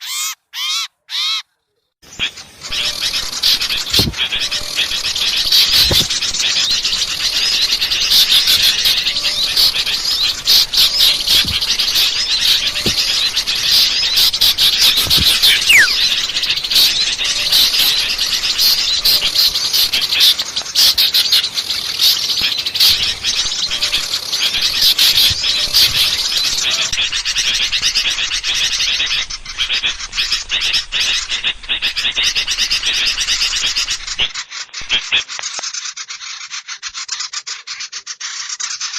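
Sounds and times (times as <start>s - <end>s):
songbirds chattering and chirping: 2.0s - 38.9s
falling bird whistle: 2.1s - 34.1s.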